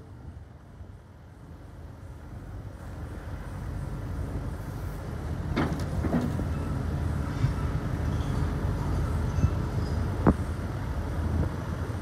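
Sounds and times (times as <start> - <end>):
excavator diesel engine running: 0.5 - 12.0.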